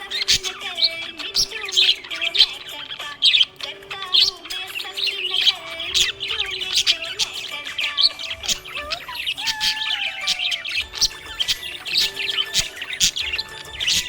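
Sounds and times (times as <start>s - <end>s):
parrots chirping: 0.0s - 14.0s.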